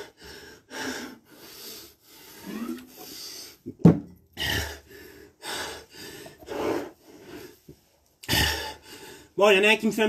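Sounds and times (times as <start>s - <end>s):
man breathing heavily: 0.0s - 3.8s, 4.4s - 9.4s.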